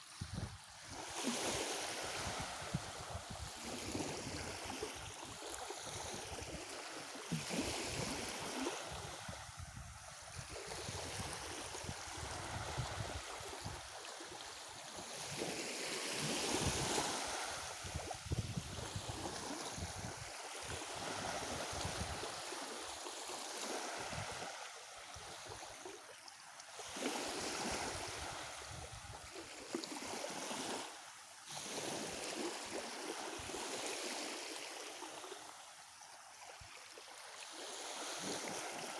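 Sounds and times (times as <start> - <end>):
waves washing onto shore: 0.0 - 38.9.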